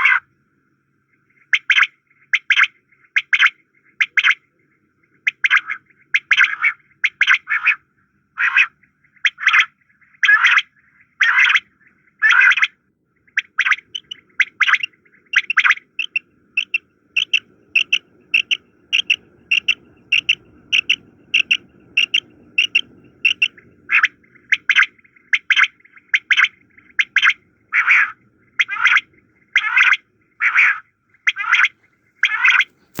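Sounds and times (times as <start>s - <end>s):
quails calling: 0.0s - 0.3s, 1.1s - 33.0s.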